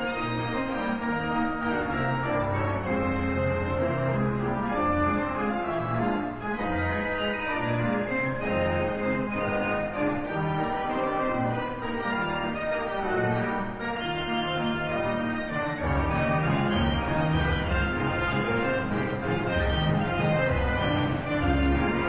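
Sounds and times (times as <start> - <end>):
organ-like chords: 1.6 - 22.0.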